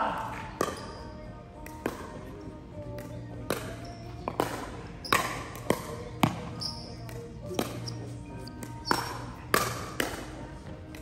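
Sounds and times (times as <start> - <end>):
ball hits: 0.0 - 1.0, 1.6 - 11.0
faint background music: 0.0 - 11.0.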